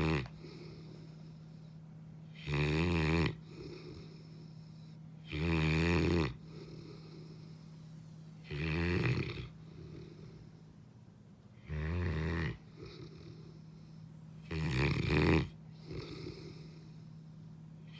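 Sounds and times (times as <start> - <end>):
dog snoring: 0.0 - 1.4, 2.3 - 7.7, 8.4 - 10.6, 11.6 - 17.1.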